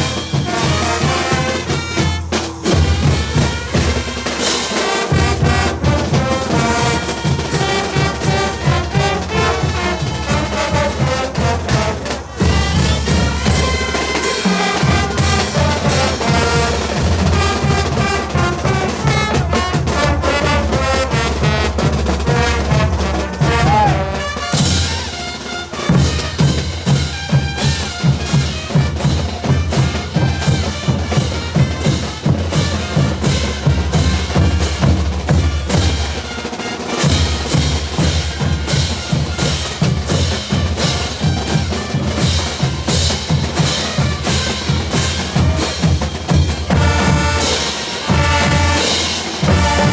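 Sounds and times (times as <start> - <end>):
bass drums snare and cymbals: 0.0 - 49.9
brass band melody: 0.0 - 49.9.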